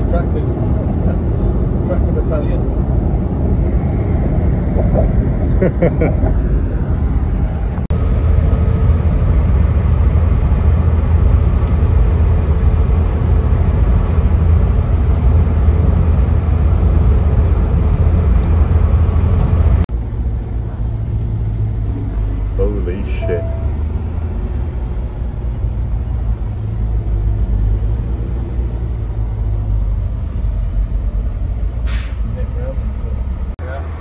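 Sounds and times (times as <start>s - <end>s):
engine and road noise drone: 0.0s - 34.0s.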